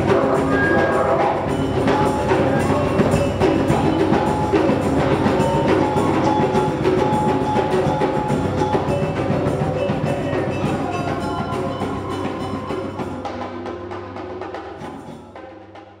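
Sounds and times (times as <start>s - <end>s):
didgeridoo drone: 0.0s - 15.0s
congas and hand drums: 0.0s - 16.0s.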